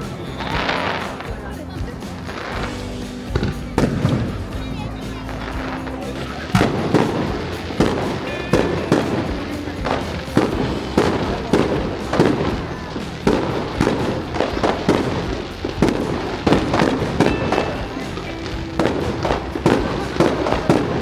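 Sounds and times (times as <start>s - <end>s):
fireworks banging: 0.0s - 21.0s.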